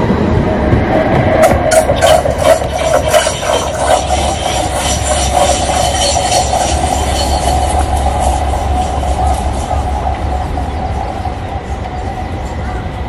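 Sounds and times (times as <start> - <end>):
tram rumbling on track: 0.0 - 13.0
wheel squeal: 1.2 - 12.9.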